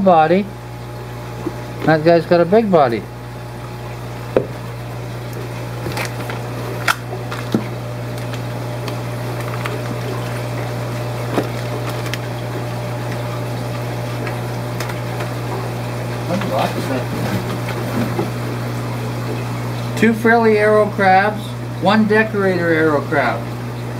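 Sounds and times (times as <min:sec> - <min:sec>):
aquarium pumps humming: 0:00.0 - 0:23.9
running water from filtration: 0:00.0 - 0:23.9.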